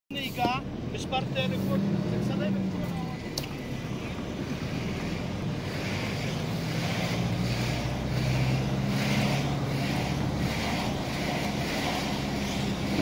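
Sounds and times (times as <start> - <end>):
car engine humming: 0.1 - 13.0.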